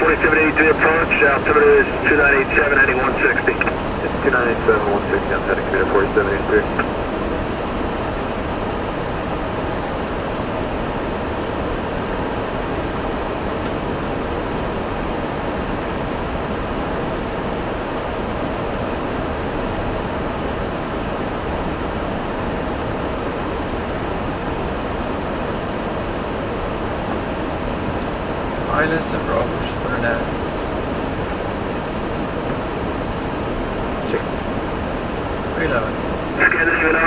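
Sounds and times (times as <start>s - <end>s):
airflow and air-conditioning noise: 0.0s - 37.0s.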